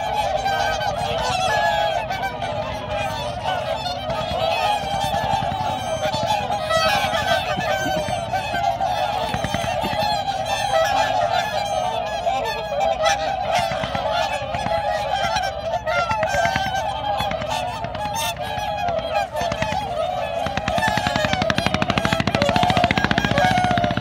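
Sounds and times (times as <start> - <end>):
swans calling: 0.0 - 24.0.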